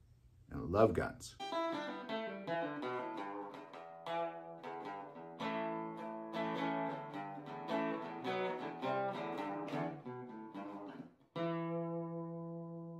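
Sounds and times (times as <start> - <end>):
acoustic guitar plucked notes: 1.4 - 12.9
guitar chord ringing: 1.4 - 12.9.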